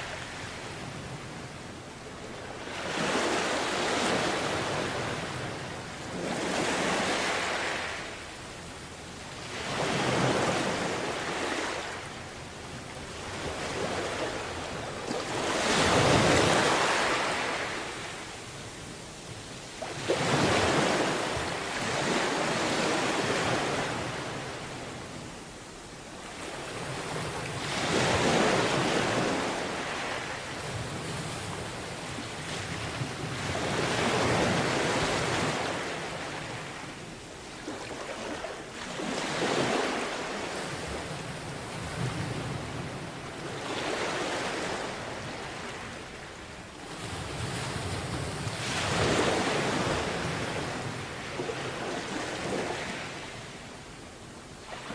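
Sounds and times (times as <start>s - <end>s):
sea waves breaking on beach: 0.0s - 54.9s.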